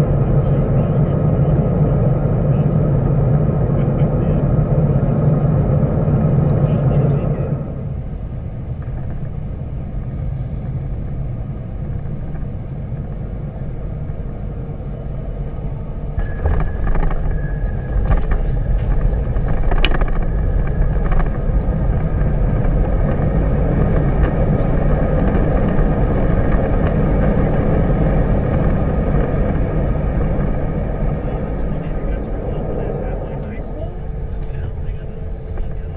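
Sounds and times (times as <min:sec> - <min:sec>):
jet engines rumbling: 0:00.0 - 0:35.9.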